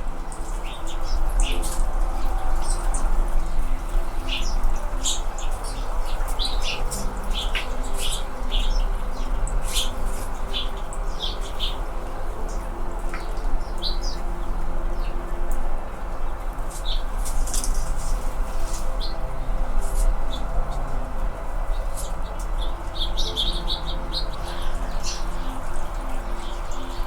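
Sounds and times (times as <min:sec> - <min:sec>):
hummingbird chip notes: 0:00.0 - 0:27.0
low background hum: 0:00.0 - 0:27.0.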